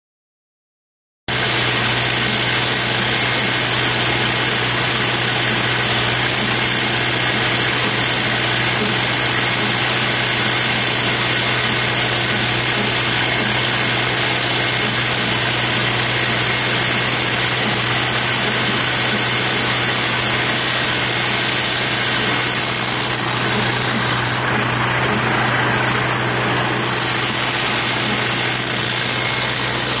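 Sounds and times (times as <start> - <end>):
tractor engine running: 1.3 - 30.0.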